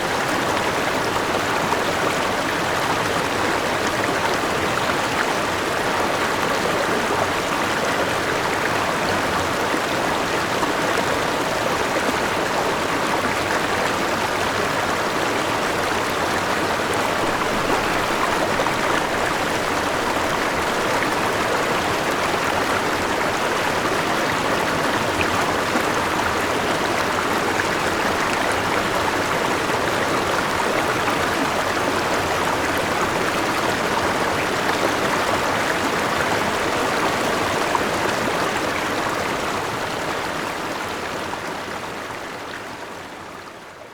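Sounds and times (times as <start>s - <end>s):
small waterfall rushing and splashing: 0.0s - 43.9s.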